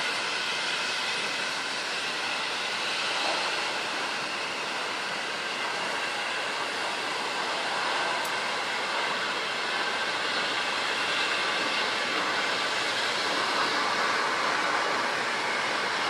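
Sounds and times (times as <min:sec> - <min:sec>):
diesel locomotive and rolling cars: 0:00.0 - 0:16.0.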